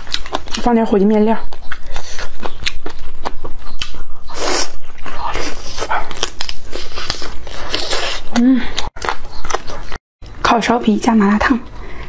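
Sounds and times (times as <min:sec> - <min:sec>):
crunching and chewing fried food: 0:00.0 - 0:10.0.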